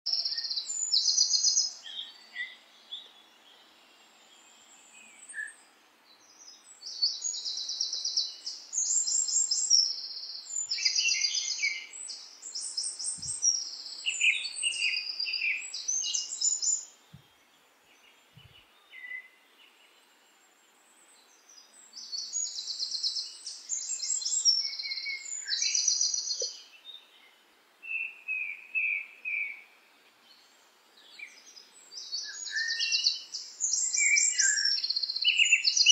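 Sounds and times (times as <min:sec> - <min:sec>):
faint background hiss: 0:00.1 - 0:35.9
songbirds chirping and trilling: 0:00.1 - 0:35.9.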